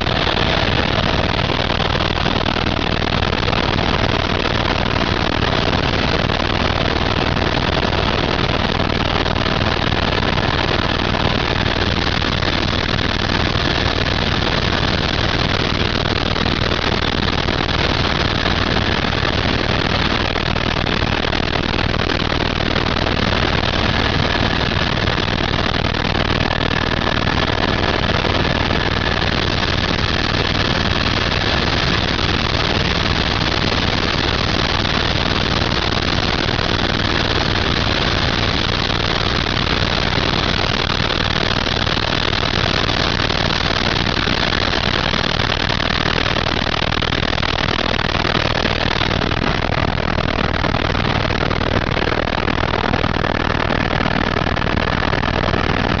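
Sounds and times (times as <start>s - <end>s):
faint steady whine: 0.0s - 56.0s
helicopter engine and rotor drone: 0.0s - 56.0s.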